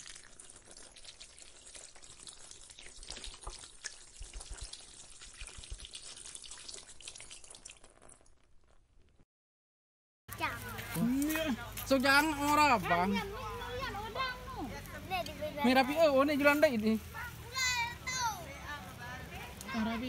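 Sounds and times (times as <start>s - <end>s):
food sizzling over fire: 0.0s - 9.2s, 10.3s - 20.0s.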